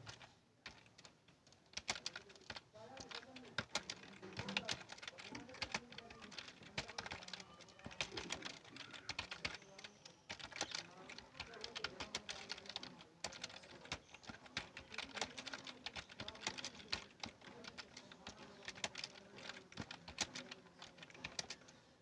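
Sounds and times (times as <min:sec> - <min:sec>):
keyboard typing clicks: 0:01.7 - 0:21.8.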